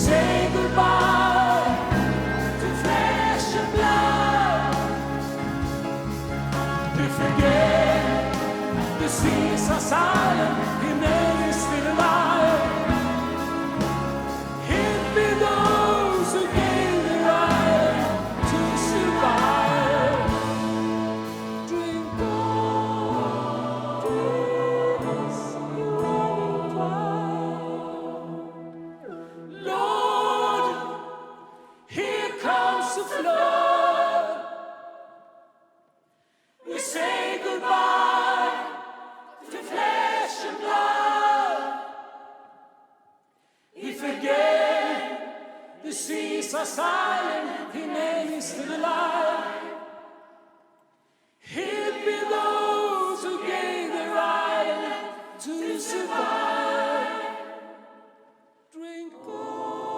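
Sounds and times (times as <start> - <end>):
gospel choir singing: 0.0 - 35.6, 36.5 - 43.0, 43.7 - 50.6, 51.4 - 59.9.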